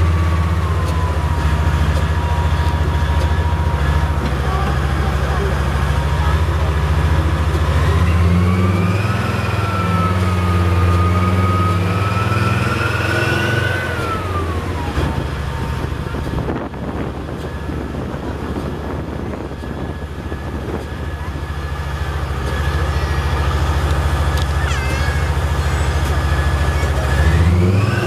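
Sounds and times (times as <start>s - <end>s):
suspension whine: 0.0s - 28.0s
tank diesel engine running: 0.0s - 28.0s.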